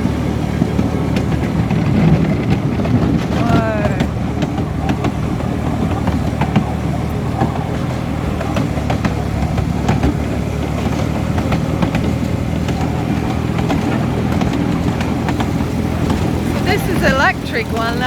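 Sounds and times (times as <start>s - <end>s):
clicks and clacks of train: 0.0s - 18.0s
train wheels rumbling on track: 0.0s - 18.0s.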